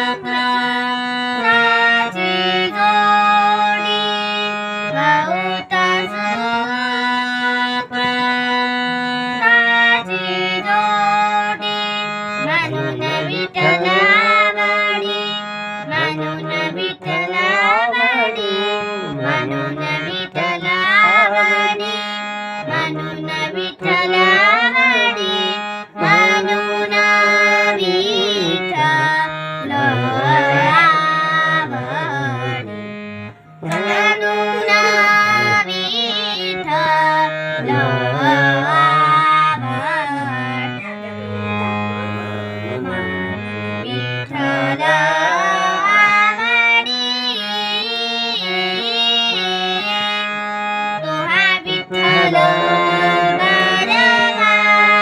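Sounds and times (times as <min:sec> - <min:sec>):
harmonium drone and chords: 0:00.0 - 0:55.0
person singing devotional song: 0:00.0 - 0:55.0.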